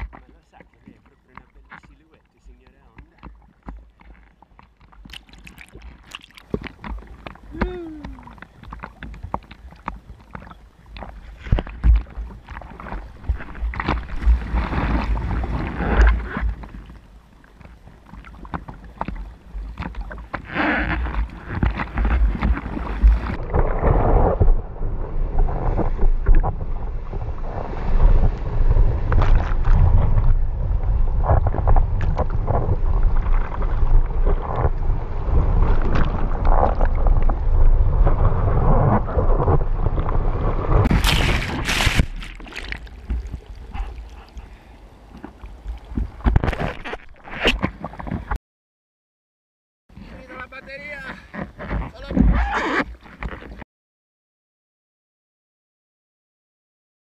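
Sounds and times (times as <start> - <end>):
water splashing against bodyboard: 0.0 - 48.4, 50.0 - 53.6.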